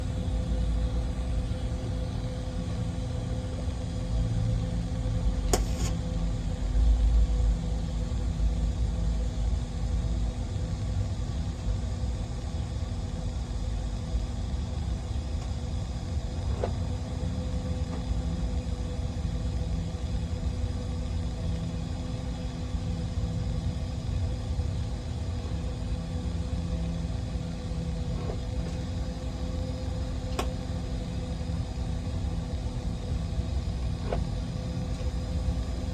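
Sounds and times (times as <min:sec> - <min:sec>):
mechanical hum: 0:00.0 - 0:35.9.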